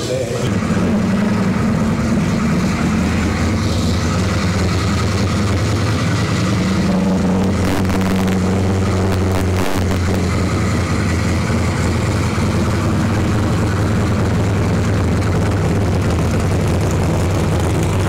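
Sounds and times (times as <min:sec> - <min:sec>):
vehicle engine low rumble: 0:00.0 - 0:18.0.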